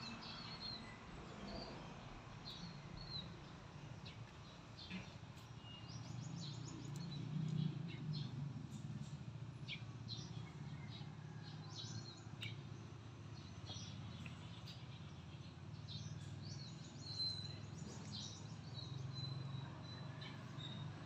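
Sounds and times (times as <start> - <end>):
small birds chirping: 2.4 - 11.1, 11.8 - 21.0.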